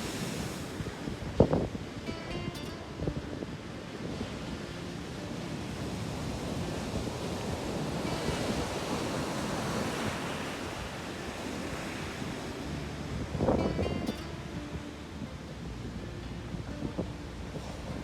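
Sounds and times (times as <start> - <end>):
sea waves washing ashore: 0.0 - 18.0
wind rumbling on microphone: 0.0 - 18.0.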